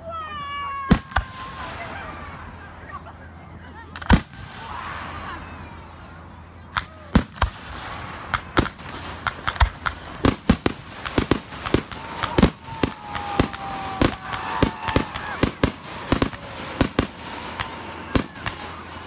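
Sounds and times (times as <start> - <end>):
fireworks bangs: 0.8 - 2.8, 3.8 - 5.6, 6.6 - 19.0.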